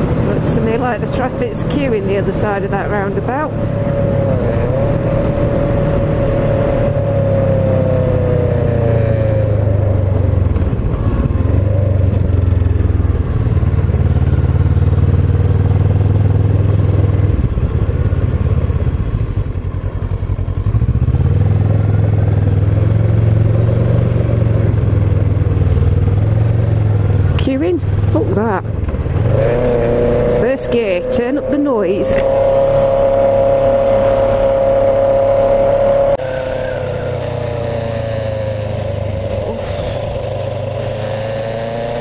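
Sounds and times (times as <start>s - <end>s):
engine whine: 0.0s - 42.0s
motorcycle engine running: 0.0s - 42.0s.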